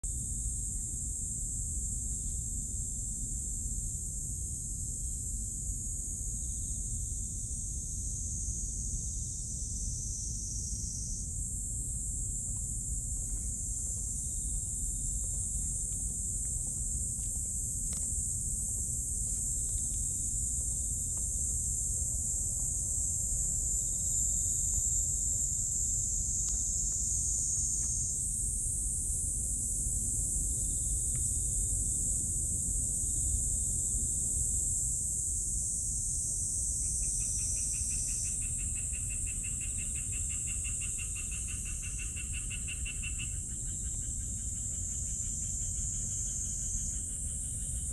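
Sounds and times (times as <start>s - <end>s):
cicadas singing: 4.5s - 47.9s.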